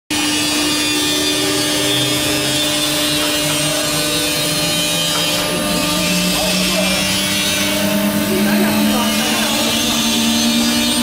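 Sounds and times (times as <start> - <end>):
cnc router whine: 0.1 - 11.0.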